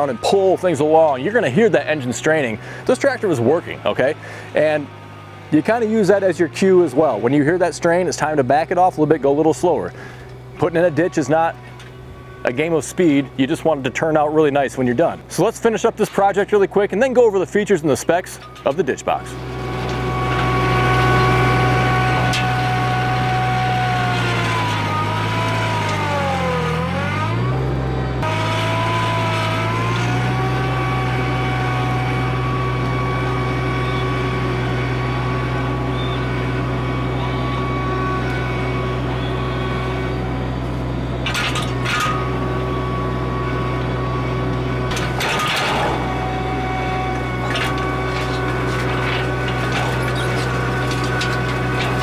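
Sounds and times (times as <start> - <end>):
tractor engine running under load: 0.0 - 52.0.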